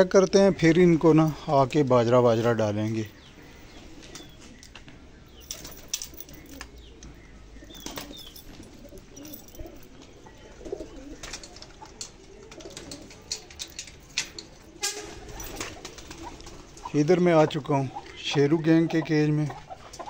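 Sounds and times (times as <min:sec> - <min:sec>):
pigeons cooing: 0:03.1 - 0:20.0.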